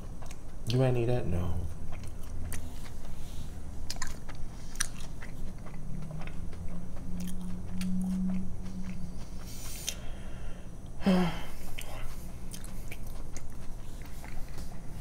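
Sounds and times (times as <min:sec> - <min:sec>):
person chewing food: 0:00.0 - 0:00.8, 0:01.6 - 0:15.0
low held hum: 0:00.0 - 0:15.0.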